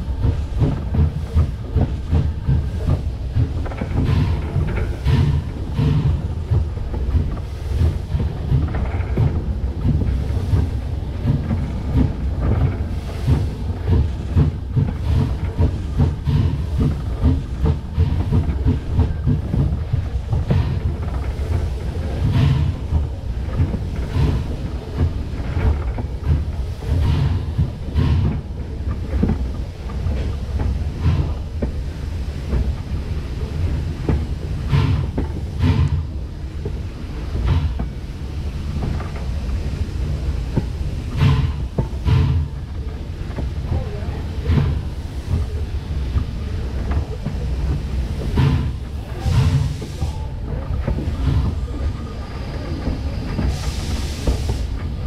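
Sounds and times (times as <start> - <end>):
steam locomotive wheels rumbling: 0.0 - 55.0
wheels clacking on rails: 0.0 - 55.0.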